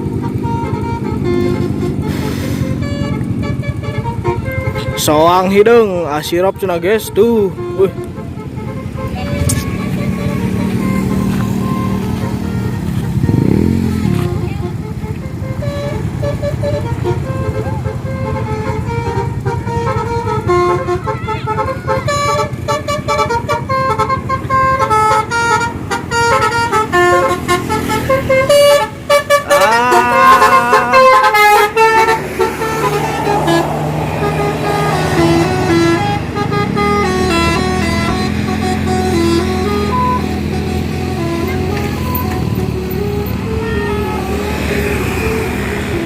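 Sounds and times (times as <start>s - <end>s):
bus engine running: 0.0s - 46.0s
multi-tone bus horn tune: 0.0s - 46.0s.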